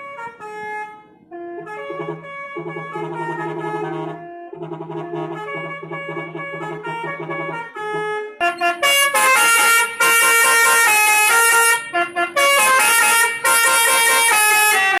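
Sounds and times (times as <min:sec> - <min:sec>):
musical air horn tune: 0:00.0 - 0:15.0.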